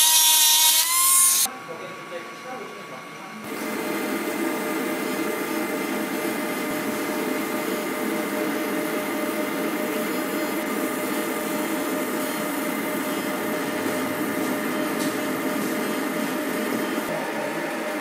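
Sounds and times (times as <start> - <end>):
laser engraver whirring and whining: 0.0 - 18.0.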